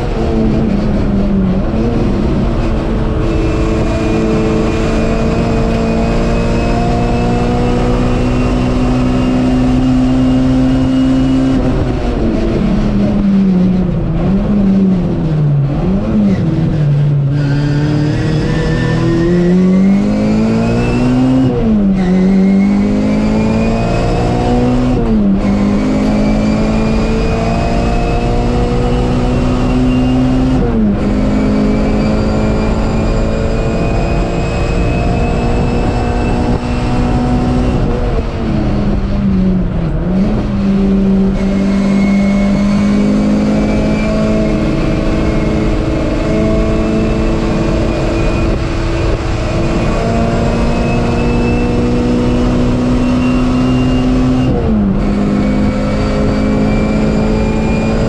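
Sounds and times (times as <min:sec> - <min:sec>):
race car engine running hard: 0:00.0 - 0:58.0
road noise: 0:00.0 - 0:58.0.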